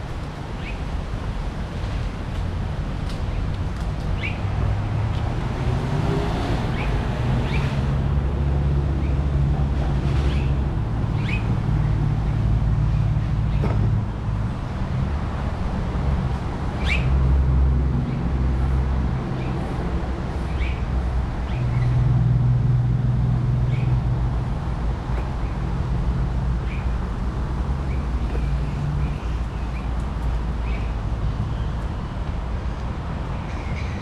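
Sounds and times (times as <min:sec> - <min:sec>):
low rumble of road traffic: 0:00.0 - 0:34.0.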